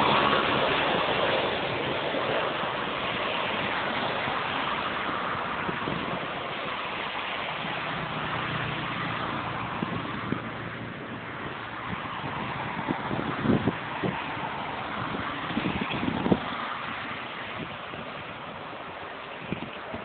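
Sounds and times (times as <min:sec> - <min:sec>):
landing aircraft rushing: 0:00.0 - 0:20.0.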